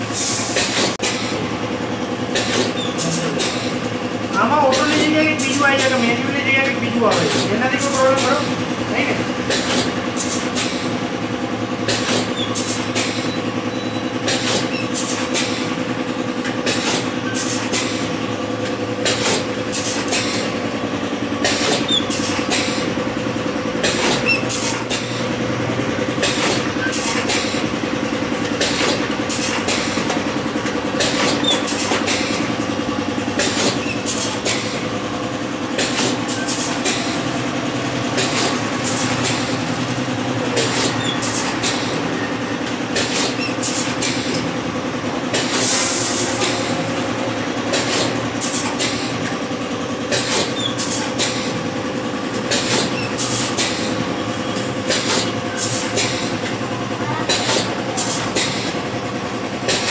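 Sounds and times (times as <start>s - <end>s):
machine clicks and clacks: 0.0s - 59.9s
motor hum: 0.0s - 59.9s.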